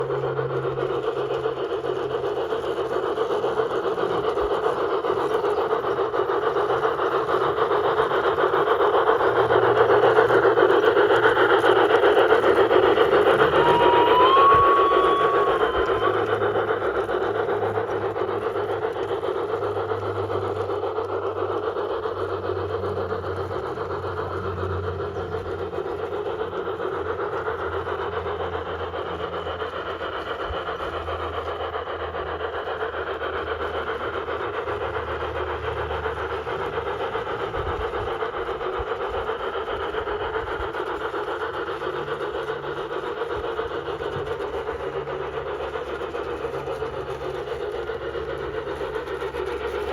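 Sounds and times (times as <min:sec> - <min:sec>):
model train running on track: 0:00.0 - 0:49.9.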